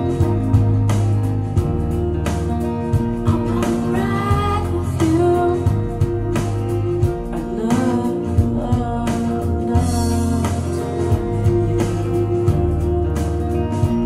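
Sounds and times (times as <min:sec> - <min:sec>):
song with guitar and singing: 0:00.0 - 0:14.0.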